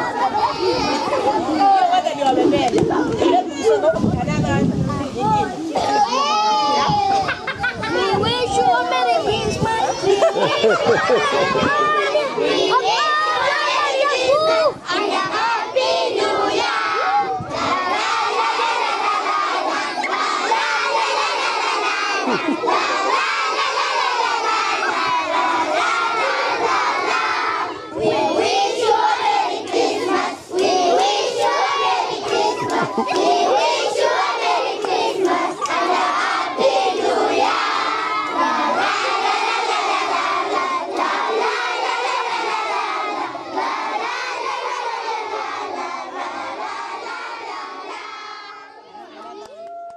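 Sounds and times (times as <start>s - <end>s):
children shouting and cheering: 0.0s - 4.2s, 4.8s - 49.9s.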